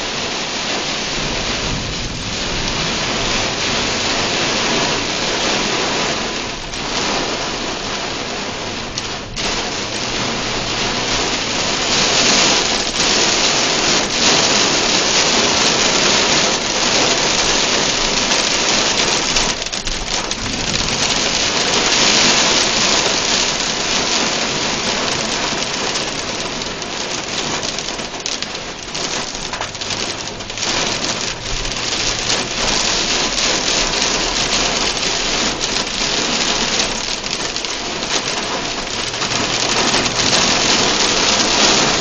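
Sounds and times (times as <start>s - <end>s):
heavy rain and hail on car roof: 0.0s - 42.0s.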